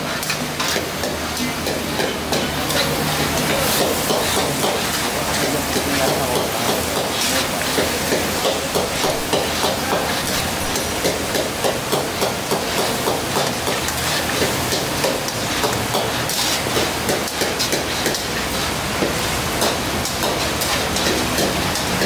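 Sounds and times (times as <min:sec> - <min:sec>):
meat sizzling in a wok: 0:00.0 - 0:22.0
metal utensil scraping a pan: 0:00.0 - 0:22.0.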